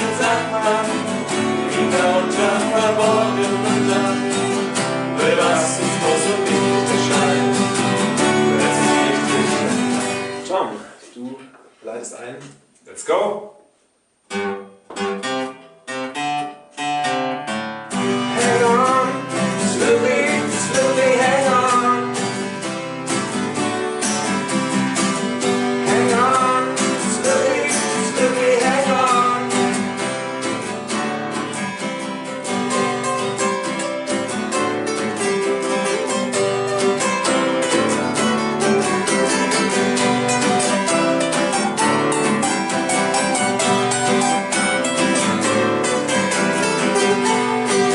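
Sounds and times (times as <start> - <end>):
acoustic guitars strumming: 0.0 - 11.0, 13.7 - 47.9.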